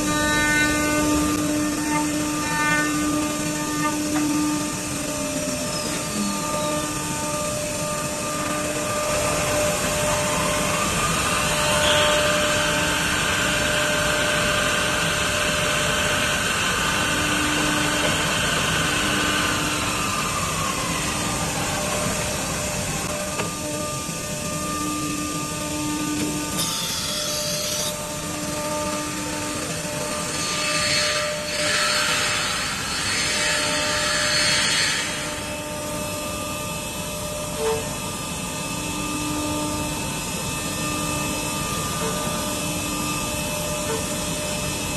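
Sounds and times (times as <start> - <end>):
drilling machine motors whirring: 0.0 - 44.9.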